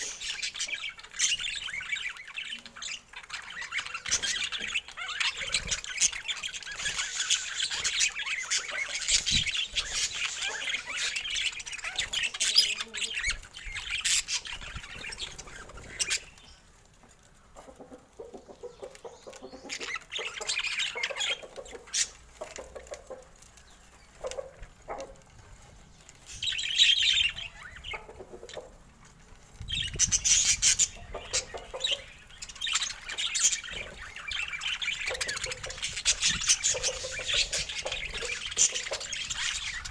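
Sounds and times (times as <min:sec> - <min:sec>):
budgerigars chattering and chirping: 0:00.0 - 0:16.7, 0:17.6 - 0:25.2, 0:25.9 - 0:39.9.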